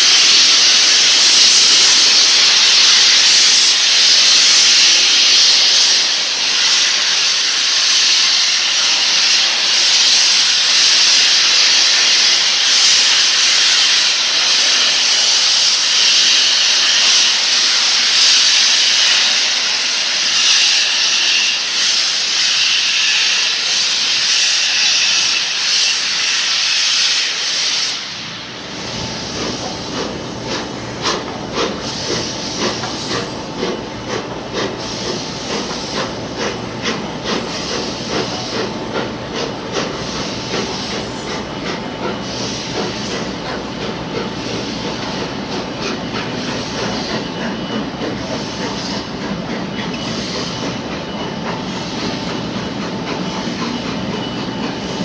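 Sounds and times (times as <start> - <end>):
steam hissing: 0.0 - 55.0
train rumbling slowly: 0.0 - 55.0.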